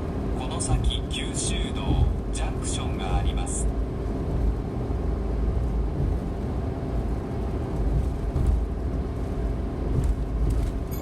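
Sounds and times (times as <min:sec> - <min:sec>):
road and engine noise in cabin: 0:00.0 - 0:11.0.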